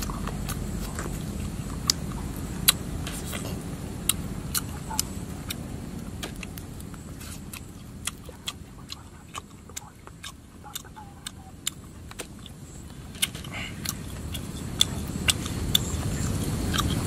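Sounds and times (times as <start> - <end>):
campfire crackling and popping: 0.0 - 17.0
low steady rumble: 0.0 - 17.0.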